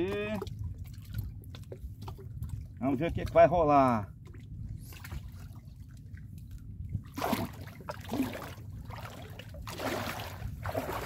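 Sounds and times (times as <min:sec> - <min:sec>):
low steady rumble: 0:00.0 - 0:11.0
water splashing from wading: 0:00.0 - 0:11.0.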